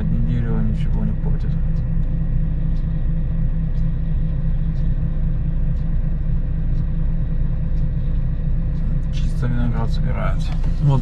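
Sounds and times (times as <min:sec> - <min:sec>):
diesel engine idling: 0:00.0 - 0:11.0
faint ticking: 0:00.0 - 0:11.0.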